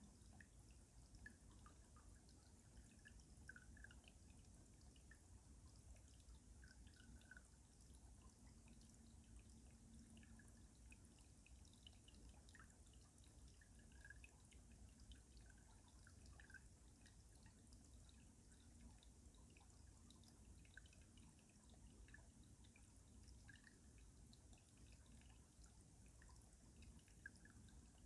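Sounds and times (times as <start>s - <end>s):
stream water trickling under ice: 0.0s - 28.0s.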